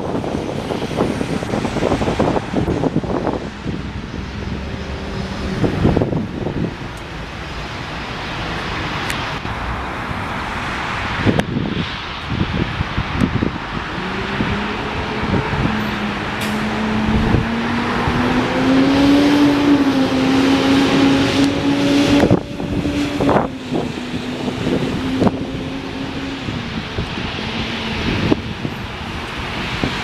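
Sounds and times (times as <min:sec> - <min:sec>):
jet engines rushing: 0:00.0 - 0:30.0
wind buffeting microphone: 0:00.0 - 0:30.0.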